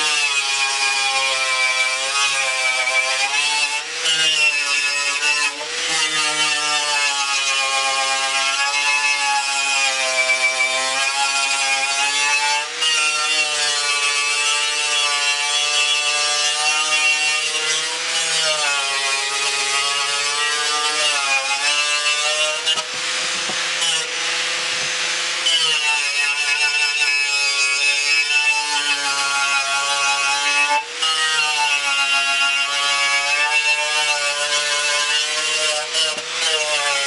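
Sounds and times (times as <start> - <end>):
angle grinder whining: 0.0 - 31.8, 32.6 - 37.0.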